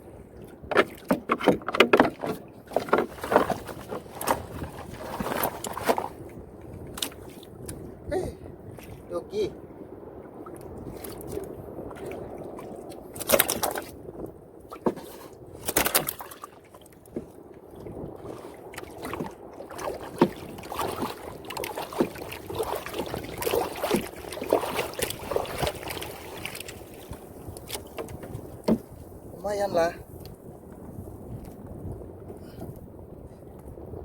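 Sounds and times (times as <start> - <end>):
seawater splashing and sloshing: 0.2 - 8.0, 8.6 - 9.1, 10.3 - 30.2.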